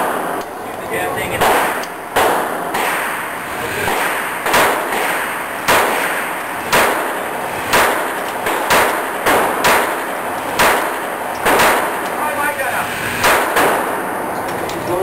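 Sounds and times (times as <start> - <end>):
pistol shots with echo: 1.3 - 14.4.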